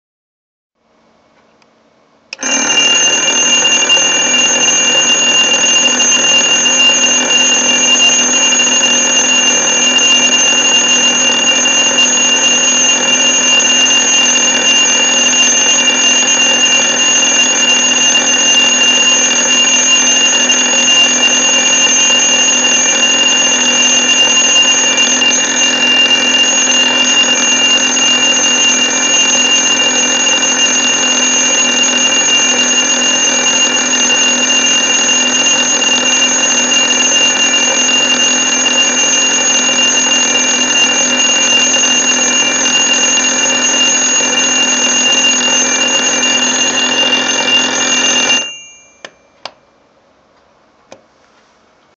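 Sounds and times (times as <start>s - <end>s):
alarm clock high-pitched tone: 2.4s - 49.6s.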